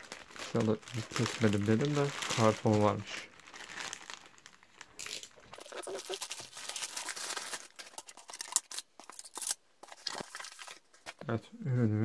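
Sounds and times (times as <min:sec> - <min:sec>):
plastic mailer bag crinkling: 0:00.0 - 0:11.2.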